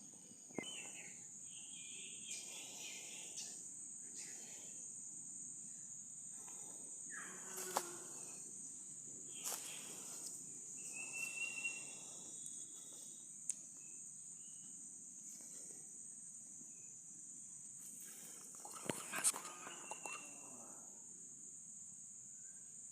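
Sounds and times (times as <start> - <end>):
insects chirping chorus: 0.0 - 22.9.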